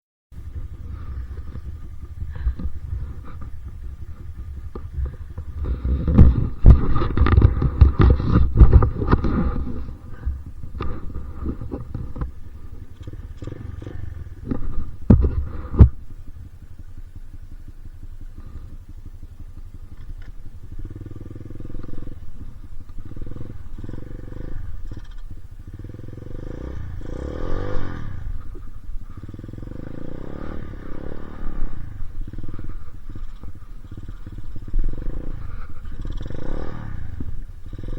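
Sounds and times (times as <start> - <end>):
heavy rumbling: 0.3 - 37.9
dirt bike engine revving: 0.4 - 37.9.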